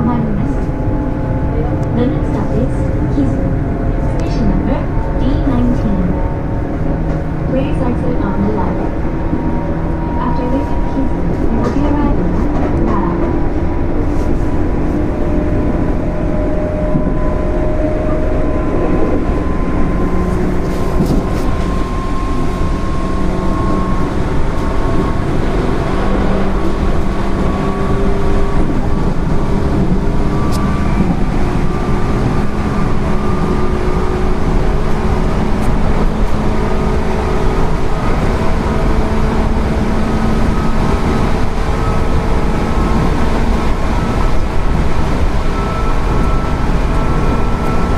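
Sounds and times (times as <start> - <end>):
train wheels rumbling: 0.0 - 47.9.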